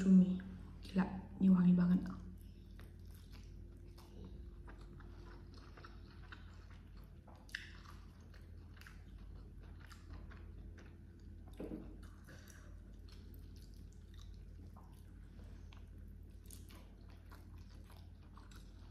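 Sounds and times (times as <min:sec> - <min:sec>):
mouth chewing food: 0:02.0 - 0:18.9.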